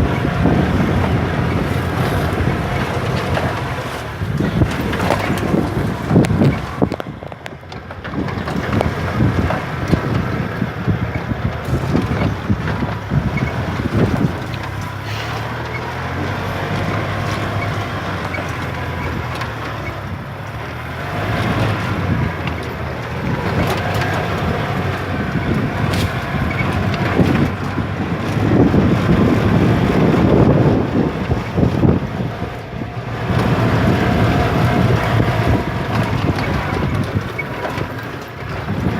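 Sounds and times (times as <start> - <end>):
golf cart motor: 0.0 - 38.9
knocks and rattles from bumps: 0.0 - 38.9
wind buffeting microphone: 0.0 - 38.9.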